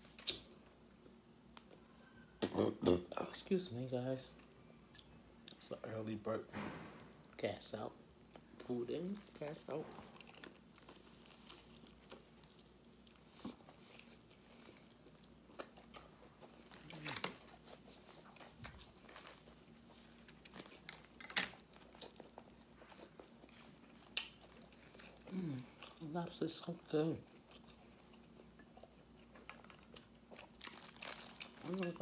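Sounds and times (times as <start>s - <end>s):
person chewing with crisp crunches: 0.0s - 3.0s, 8.2s - 32.0s.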